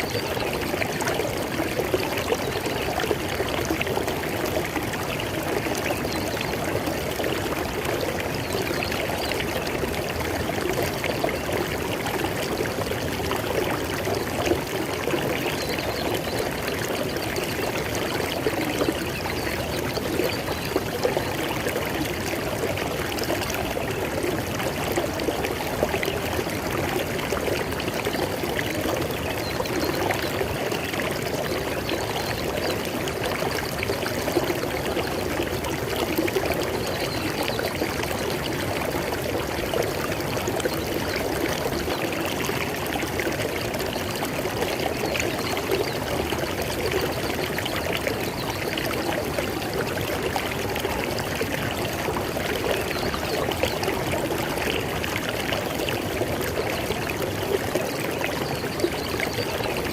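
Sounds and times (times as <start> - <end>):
river water over rocks: 0.0 - 59.9.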